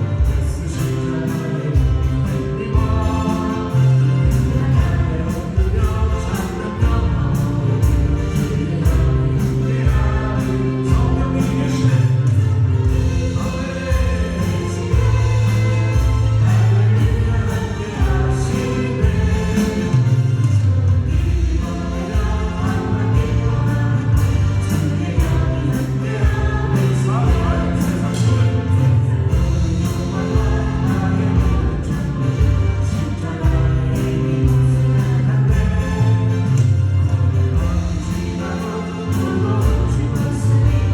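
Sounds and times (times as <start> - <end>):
steady drum beat: 0.0 - 40.9
voices singing together: 0.0 - 40.9
worship band playing: 0.0 - 40.9.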